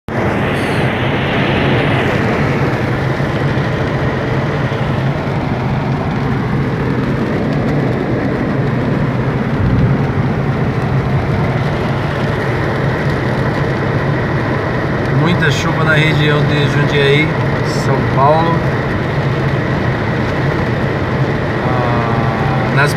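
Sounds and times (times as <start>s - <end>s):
car engine and road rumble: 0.1s - 22.9s
heavy rain: 0.1s - 22.9s.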